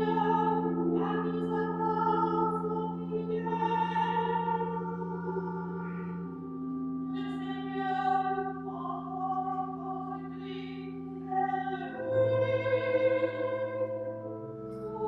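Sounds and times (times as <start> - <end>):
person singing: 0.0 - 6.2, 7.1 - 14.2
held accompaniment chords: 0.0 - 15.0.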